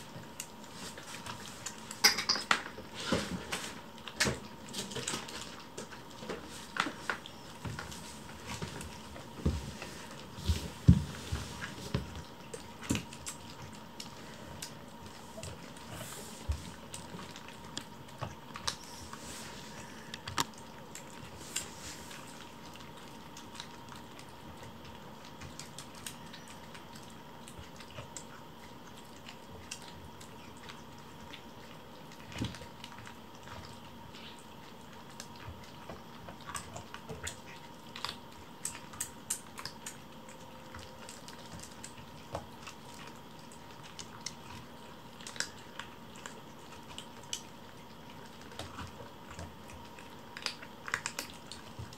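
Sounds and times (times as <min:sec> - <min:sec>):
faint steady hum: 0:00.0 - 0:51.9
kittens eating and lapping: 0:00.0 - 0:51.9.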